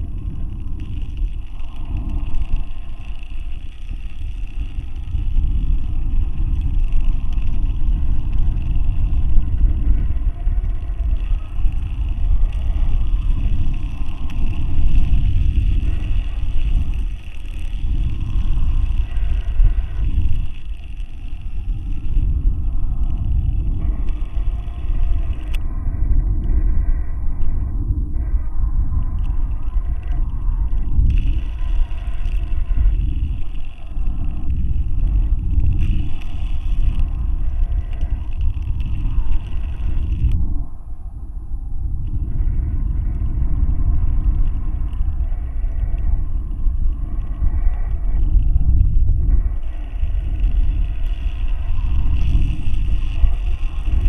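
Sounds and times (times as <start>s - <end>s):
faint high-pitched whine: 0.0s - 54.0s
low uneven rumble: 0.0s - 54.0s.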